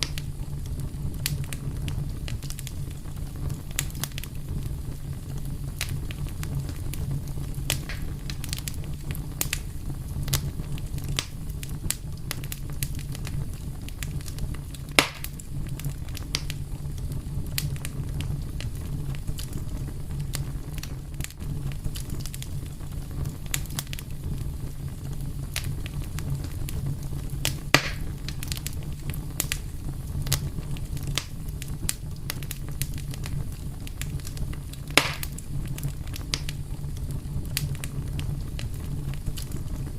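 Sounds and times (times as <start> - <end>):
fire burning and crackling: 0.0 - 39.9
loud fire pops: 0.0 - 39.9.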